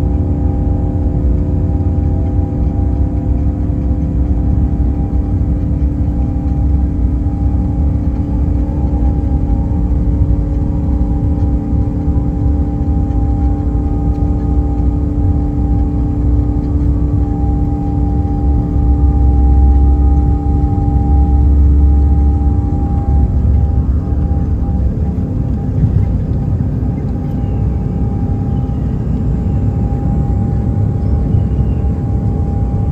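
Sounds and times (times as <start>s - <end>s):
dense low rumble: 0.0s - 32.9s
jet engine whine: 0.0s - 32.9s.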